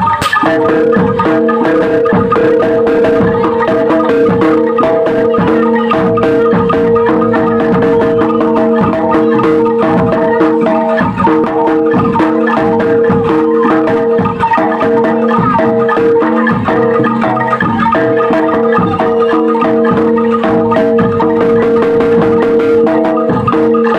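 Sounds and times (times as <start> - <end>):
metallophones ringing pattern: 0.0 - 23.9.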